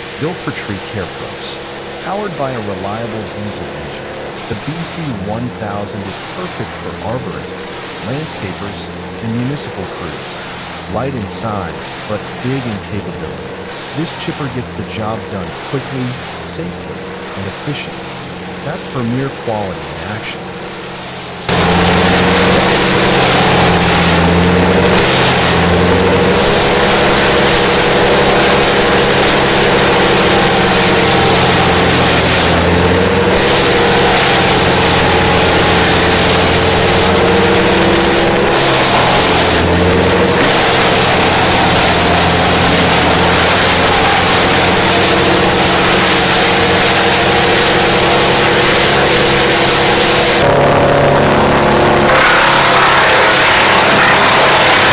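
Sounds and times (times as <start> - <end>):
wood chipper grinding: 0.0 - 54.9.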